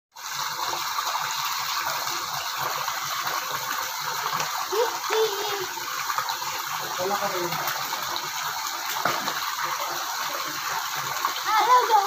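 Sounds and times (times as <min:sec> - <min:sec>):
water pouring into pool: 0:00.1 - 0:12.0.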